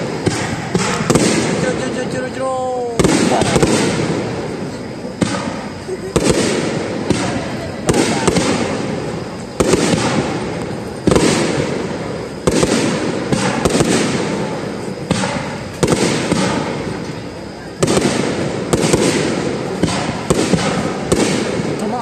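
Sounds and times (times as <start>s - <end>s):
firework shells booming: 0.0s - 22.0s.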